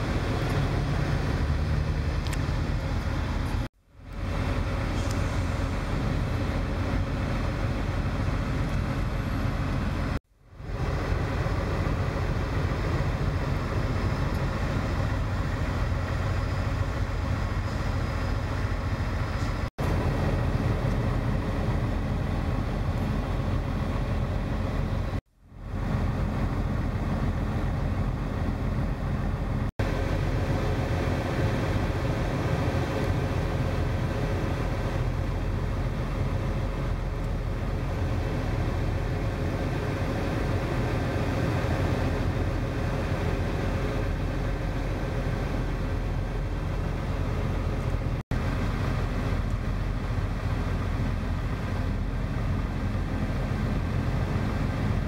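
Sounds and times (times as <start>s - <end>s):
truck diesel engines rumbling: 0.0s - 55.0s.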